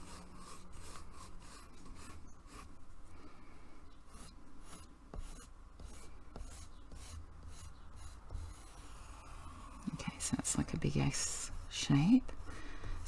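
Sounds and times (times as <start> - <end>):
pencil scratching on paper: 0.0 - 2.7, 4.1 - 13.0.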